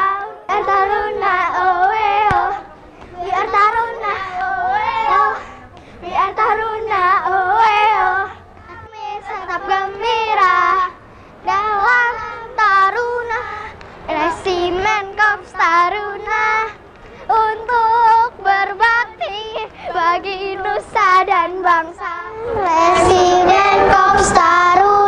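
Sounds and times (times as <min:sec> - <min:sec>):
children singing: 0:00.0 - 0:25.0.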